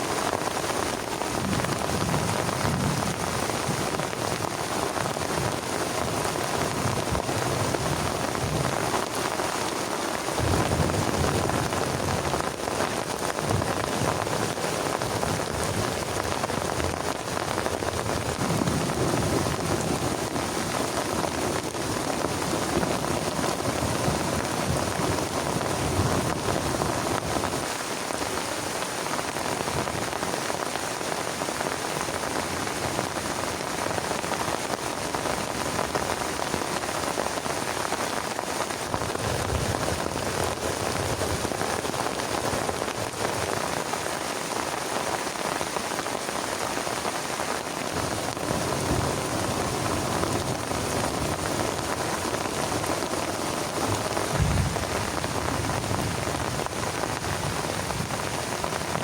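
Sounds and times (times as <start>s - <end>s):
heavy rain on a plastic tarp: 0.0s - 59.0s.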